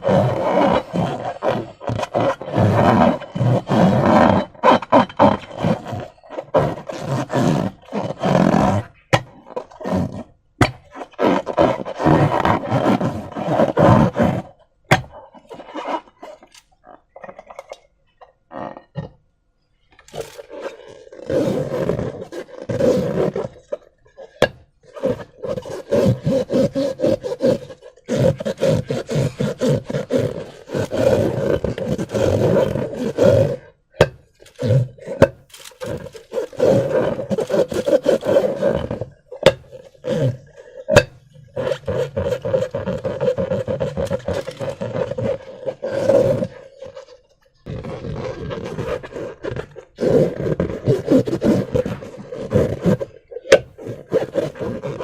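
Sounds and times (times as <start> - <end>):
rubber balloon squeaking: 0.0 - 55.0.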